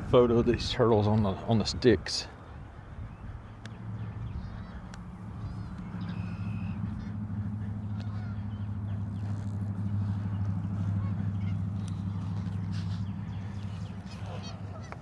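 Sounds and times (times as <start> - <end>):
road traffic hum: 0.0 - 15.0
faint bird calls: 2.4 - 15.0.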